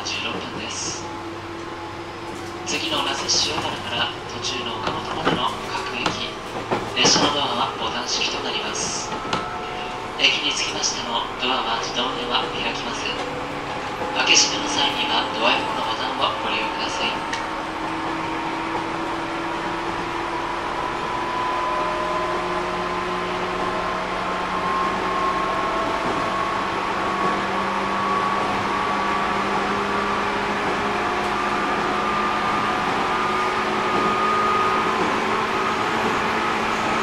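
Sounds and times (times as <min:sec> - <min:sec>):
train motor and gear whine: 0:00.0 - 0:37.0
wheels rumbling on rail: 0:00.0 - 0:37.0.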